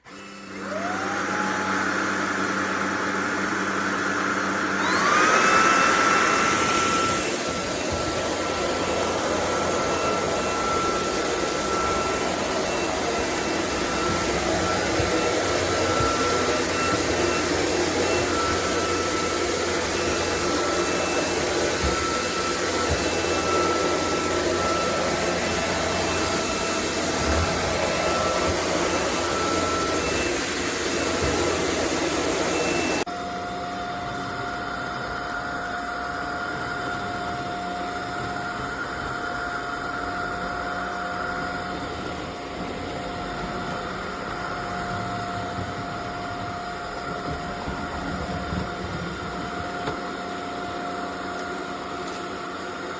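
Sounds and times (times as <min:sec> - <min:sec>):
stick vacuum running: 0:00.0 - 0:52.9.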